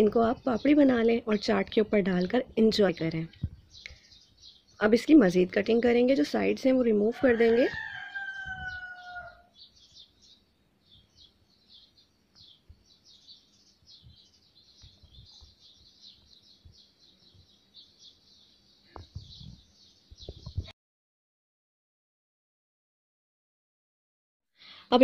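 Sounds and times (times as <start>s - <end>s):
faint birds chirping: 0.0s - 20.7s.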